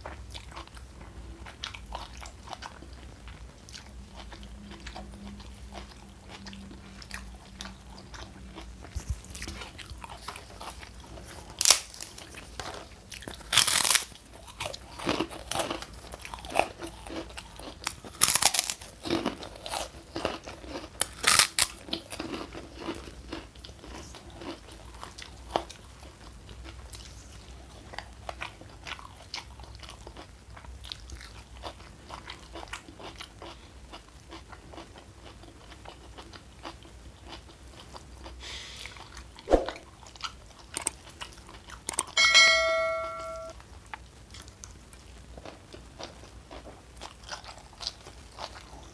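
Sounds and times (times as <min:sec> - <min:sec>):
crunchy chewing: 0:00.0 - 0:39.4, 0:40.0 - 0:42.2, 0:43.9 - 0:48.9.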